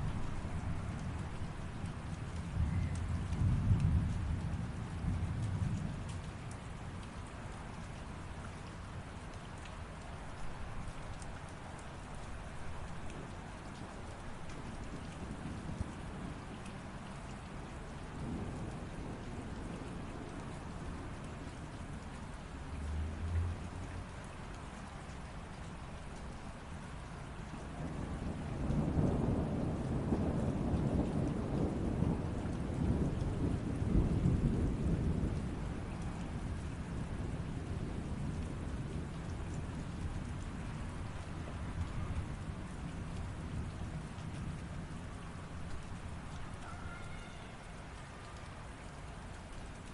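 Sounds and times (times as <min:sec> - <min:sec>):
light rain falling: 0:00.0 - 0:49.9
low rumble of thunder: 0:00.0 - 0:49.9
raindrops tapping: 0:00.0 - 0:49.9.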